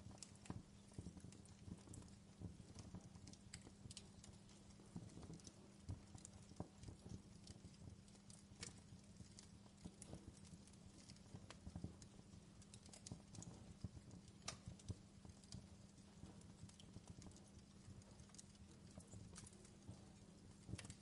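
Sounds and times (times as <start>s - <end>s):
faint fireplace crackling: 0.0s - 21.0s
steady low hum: 0.0s - 21.0s.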